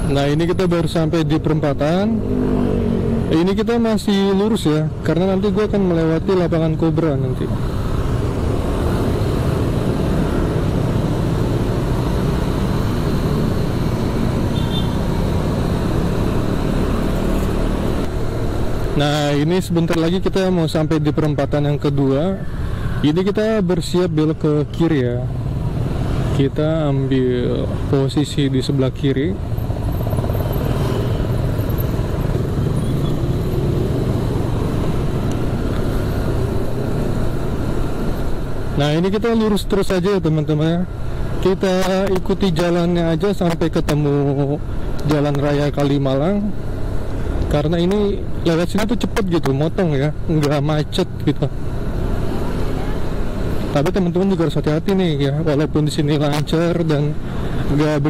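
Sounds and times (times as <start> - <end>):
other motorbikes: 0.0 - 58.0
road and wind noise: 0.0 - 58.0.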